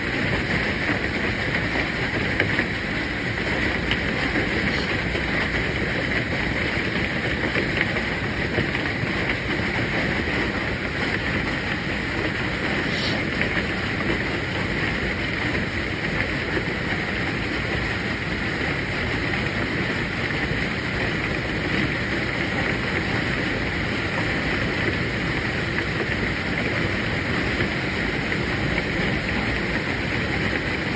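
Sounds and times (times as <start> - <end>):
hail falling: 0.0 - 30.9.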